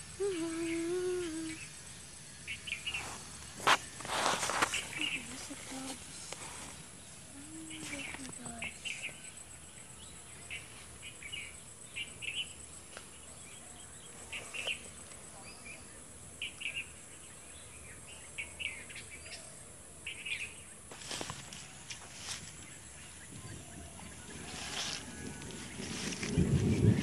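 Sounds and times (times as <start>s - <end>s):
birds chirping: 0.0s - 21.9s
faint steady hiss: 0.0s - 27.0s.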